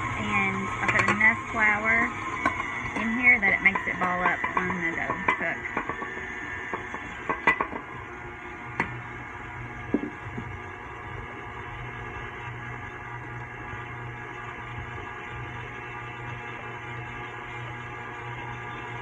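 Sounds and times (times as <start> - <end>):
stand mixer kneading dough: 0.0 - 19.0.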